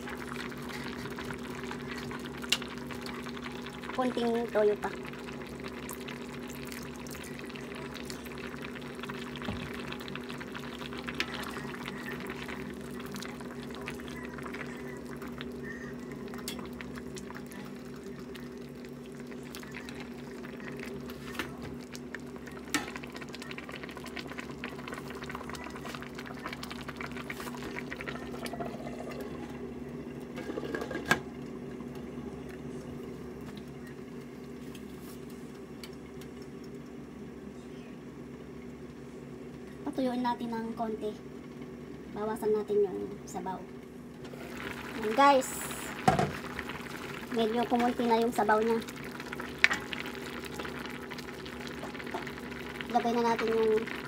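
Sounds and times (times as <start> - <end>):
food bubbling in a wok: 0.0 - 37.2, 43.7 - 54.0.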